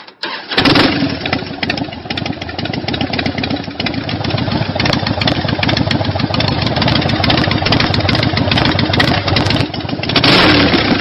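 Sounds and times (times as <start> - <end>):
motorcycle engine running: 0.6 - 11.0.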